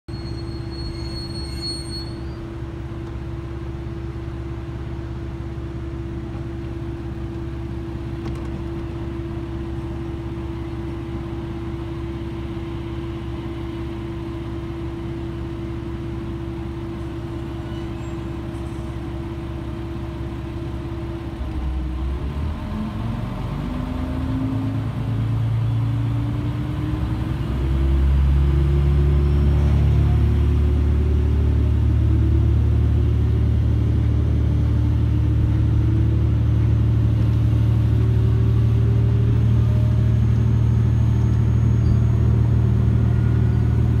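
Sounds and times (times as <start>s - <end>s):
diesel railcar engine: 0.1s - 44.0s.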